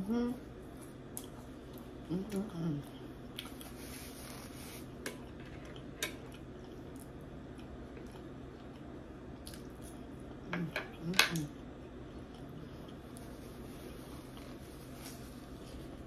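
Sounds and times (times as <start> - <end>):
chewing and mouth noises: 0.7 - 15.6.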